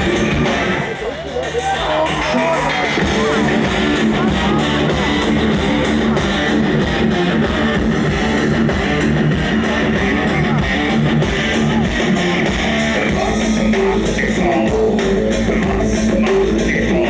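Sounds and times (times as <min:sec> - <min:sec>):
bass guitar: 0:00.0 - 0:17.0
distorted electric guitars: 0:00.0 - 0:17.0
drums: 0:00.0 - 0:17.0.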